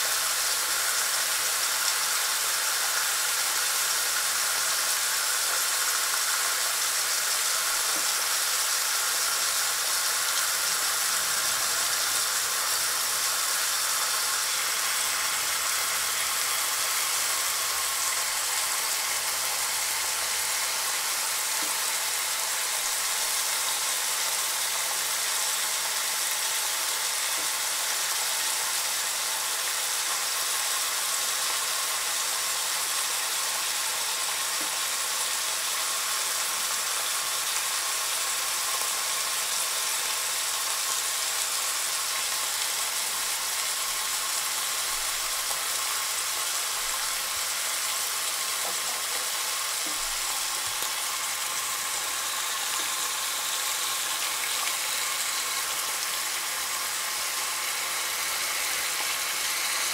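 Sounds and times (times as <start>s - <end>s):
bacon sizzling in a frying pan: 0.0s - 59.9s.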